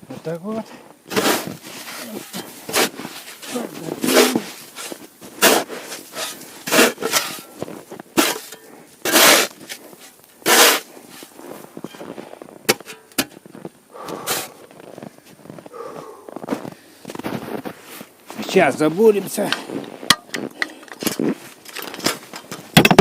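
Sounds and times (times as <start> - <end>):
tool scraping snow and ice: 0.5 - 22.5.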